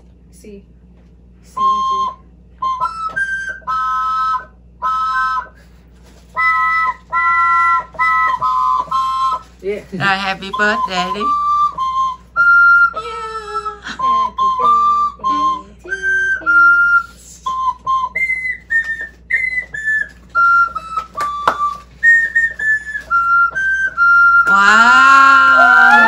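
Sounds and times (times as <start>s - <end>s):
keyboard recorder melody: 1.5s - 5.8s, 6.4s - 9.5s, 10.3s - 26.0s.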